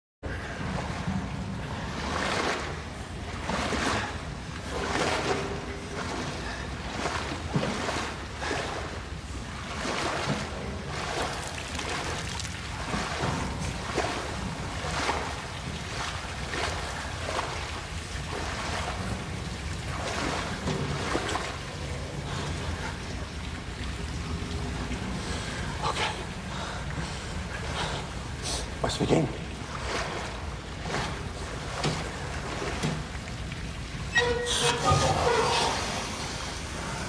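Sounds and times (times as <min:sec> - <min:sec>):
footsteps splashing in water: 0:00.6 - 0:34.3.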